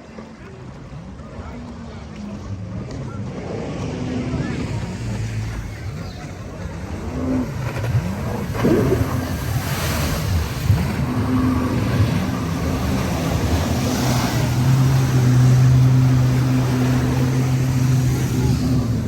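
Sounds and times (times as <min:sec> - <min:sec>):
low engine hum: 0:00.0 - 0:19.0
water noise: 0:00.0 - 0:19.0
wind: 0:00.0 - 0:19.0.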